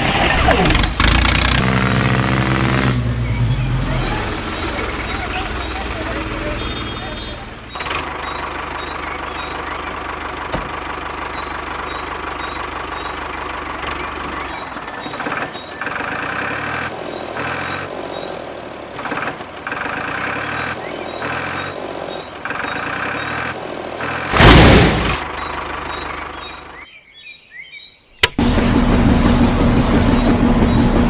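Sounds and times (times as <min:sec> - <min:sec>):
engine running: 0:00.0 - 0:26.8, 0:28.2 - 0:31.0.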